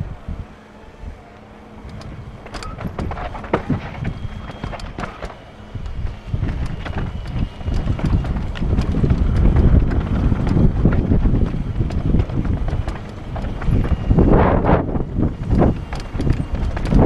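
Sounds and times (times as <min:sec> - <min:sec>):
wind on microphone: 0:00.0 - 0:17.0
tyres crunching: 0:01.2 - 0:17.0
bike knocking on rocks: 0:01.9 - 0:17.0
mountain bike rattling over rocks: 0:01.9 - 0:17.0.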